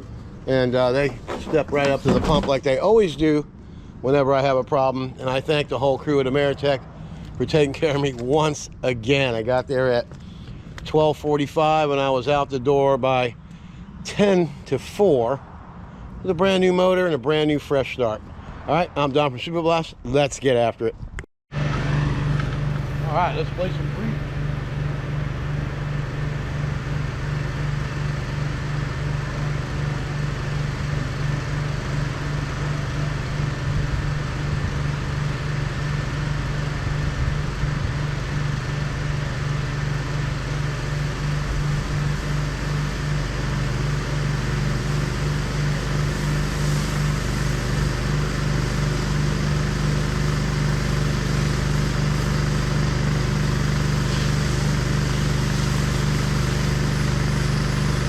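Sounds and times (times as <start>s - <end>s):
pressure washer engine running: 0.0s - 12.4s, 21.5s - 58.0s.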